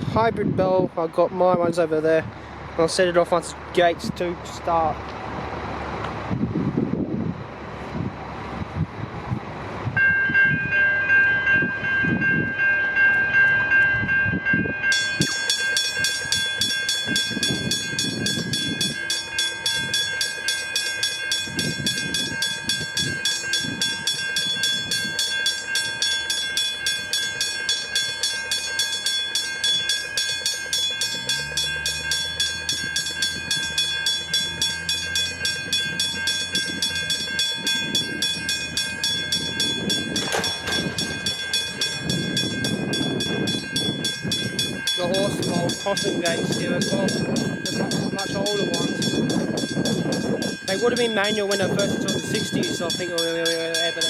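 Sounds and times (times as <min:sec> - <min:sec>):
train hum: 0:00.0 - 0:54.0
bright bell ringing: 0:10.0 - 0:54.0
level crossing bells ringing: 0:10.0 - 0:54.0.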